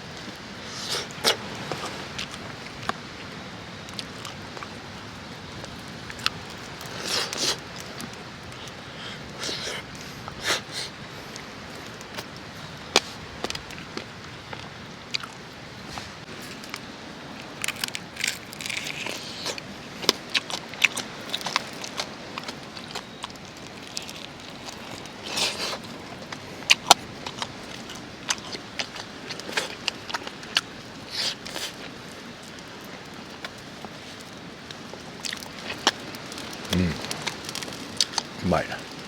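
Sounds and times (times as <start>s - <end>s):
light rain hissing: 0.0s - 20.0s, 27.5s - 39.0s.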